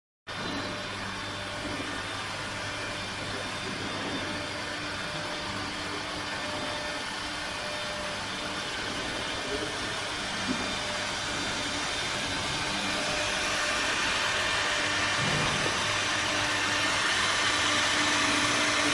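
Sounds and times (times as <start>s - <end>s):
low machine hum: 0.3s - 18.9s.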